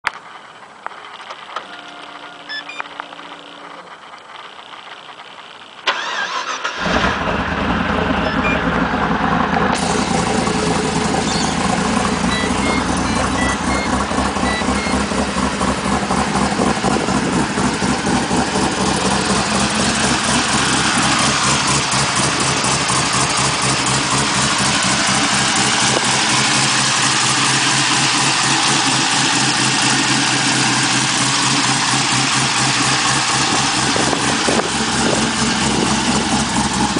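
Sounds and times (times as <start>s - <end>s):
engine idling: 0.2s - 36.9s
engine cranking and starting: 1.0s - 36.9s.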